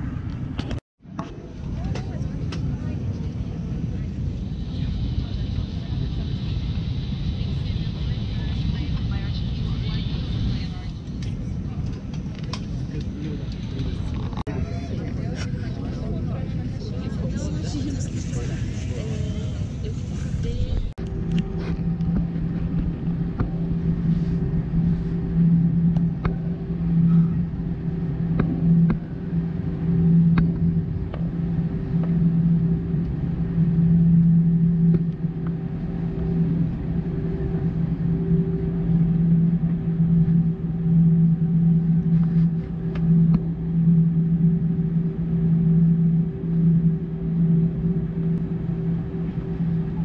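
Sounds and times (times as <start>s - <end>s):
aircraft engines idling hum: 0.0s - 50.0s
rumble of plane rolling: 0.0s - 50.0s.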